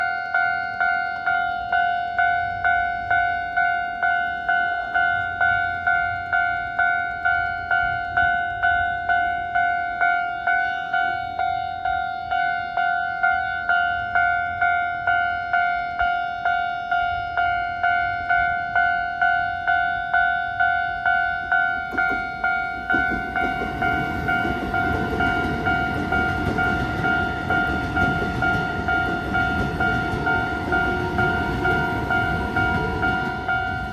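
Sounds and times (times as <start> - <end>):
passing train rumble: 1.6 - 33.9.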